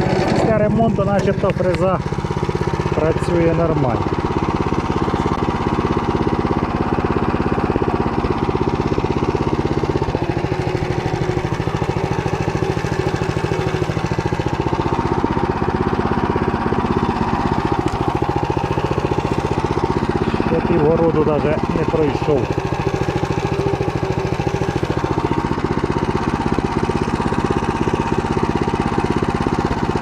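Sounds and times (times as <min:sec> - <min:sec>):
tractor engine running under load: 0:00.0 - 0:30.0.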